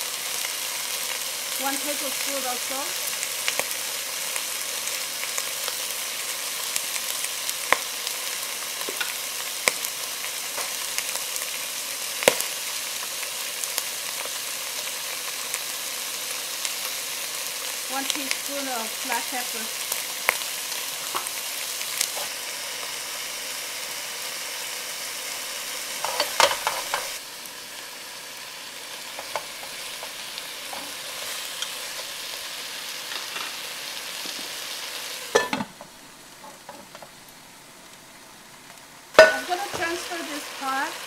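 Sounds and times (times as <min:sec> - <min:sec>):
fish sizzling in oil: 0:00.0 - 0:41.0.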